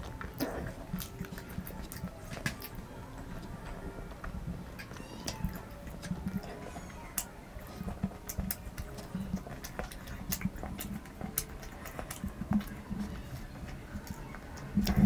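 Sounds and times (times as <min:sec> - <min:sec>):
person chewing and smacking: 0:00.0 - 0:15.0.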